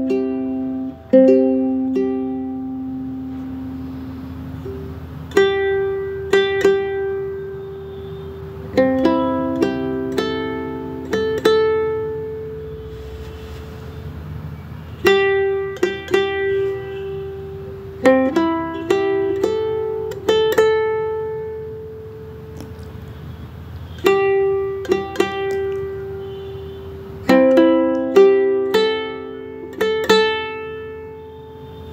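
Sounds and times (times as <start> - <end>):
plucked string melody: 0.0 - 14.0, 15.0 - 23.1, 24.0 - 31.9.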